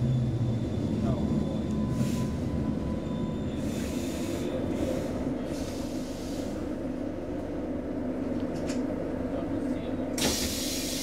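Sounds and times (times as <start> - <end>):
train passing with rushing rumble: 0.0 - 10.2
low hum of train car: 0.0 - 11.0.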